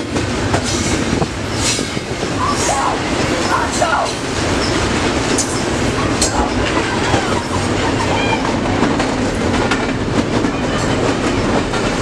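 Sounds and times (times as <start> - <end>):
freight train rumbling past: 0.0 - 12.0
wheels clicking over rail joints: 0.0 - 12.0.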